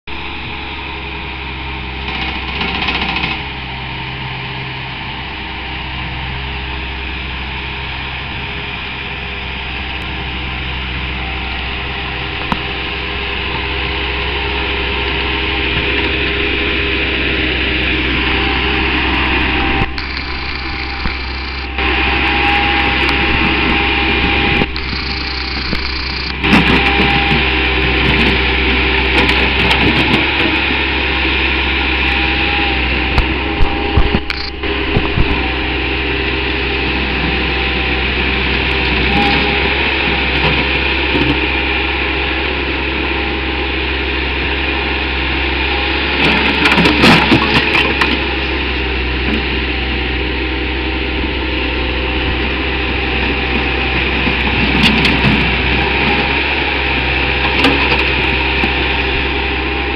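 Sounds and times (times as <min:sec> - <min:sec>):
track loader diesel engine: 0:00.0 - 0:59.9.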